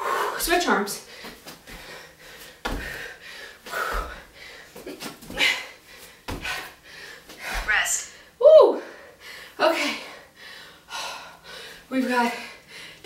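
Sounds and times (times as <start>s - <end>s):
woman breathing hard: 0.0s - 0.4s, 1.0s - 13.0s.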